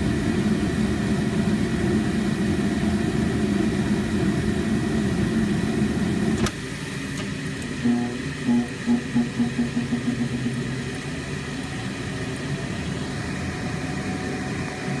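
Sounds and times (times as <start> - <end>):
furnace rumble with pulsing hum: 0.0 - 15.0.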